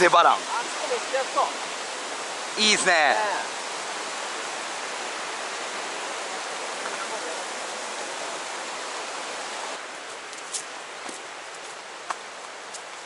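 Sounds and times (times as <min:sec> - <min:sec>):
stream rushing over rapids: 0:00.0 - 0:13.0.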